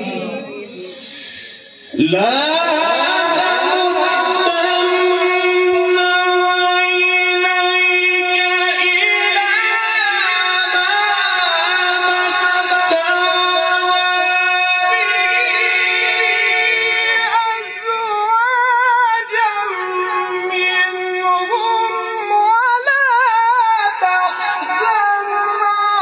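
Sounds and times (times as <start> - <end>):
man chanting melodically: 0.0 - 26.0.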